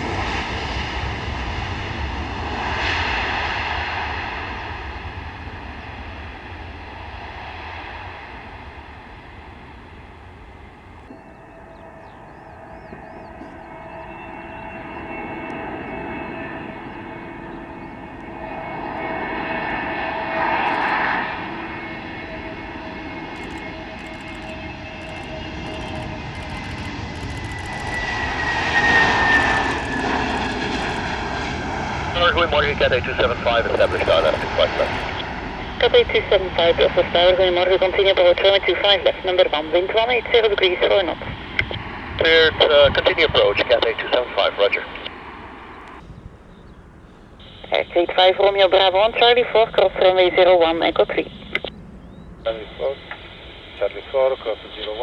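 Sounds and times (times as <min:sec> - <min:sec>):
jet airliner engine rush: 0:00.0 - 0:55.0.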